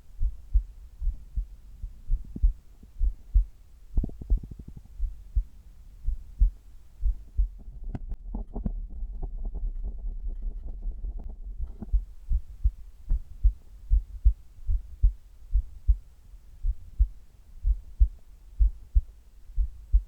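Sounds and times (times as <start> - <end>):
heartbeat thumps: 0.0 - 7.8, 11.2 - 20.0.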